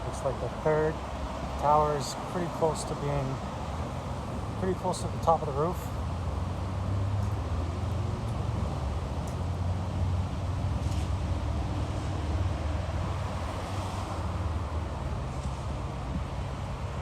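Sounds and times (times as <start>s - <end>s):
city road traffic rumble: 0.0s - 17.0s.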